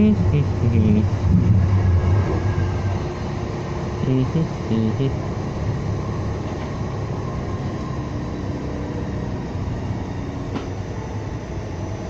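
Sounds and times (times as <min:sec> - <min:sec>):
light rail car rumbling: 0:00.0 - 0:12.0.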